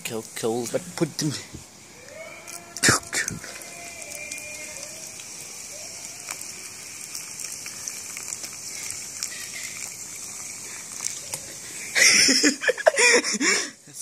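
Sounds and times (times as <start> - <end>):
soda pouring and fizzing: 0.0 - 14.0.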